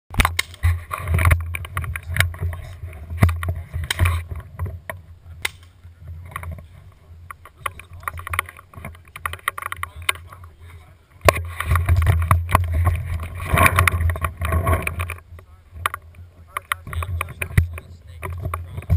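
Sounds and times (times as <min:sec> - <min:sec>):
handling knocks and clicks: 0:00.1 - 0:06.7, 0:07.3 - 0:18.9
camera handling rumble: 0:00.2 - 0:18.9.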